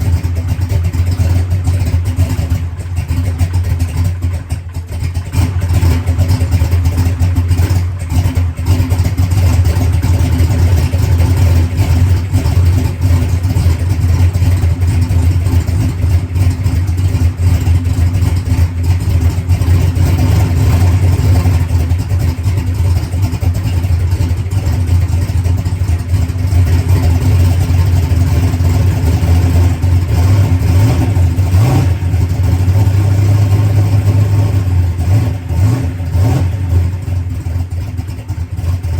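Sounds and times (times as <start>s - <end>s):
race car engine idling: 0.0s - 38.9s.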